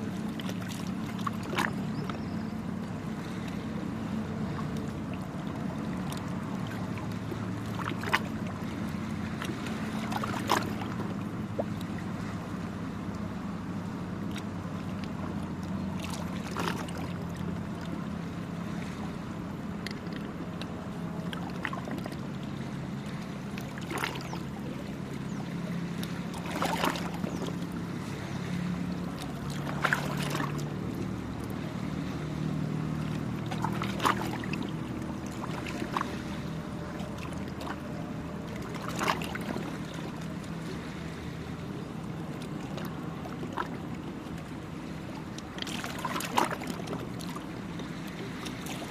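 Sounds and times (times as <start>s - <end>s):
low motor drone: 0.0s - 48.9s
sea waves lapping on shore: 0.0s - 48.9s.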